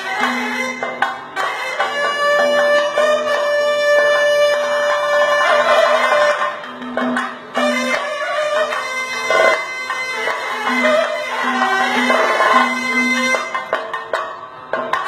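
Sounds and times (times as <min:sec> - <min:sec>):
reed wind instrument melody: 0:00.0 - 0:13.8.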